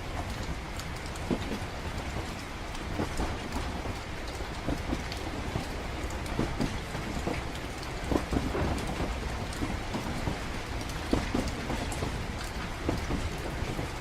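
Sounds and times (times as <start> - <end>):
rain pattering: 0.0 - 14.0
train low rumble: 0.0 - 14.0.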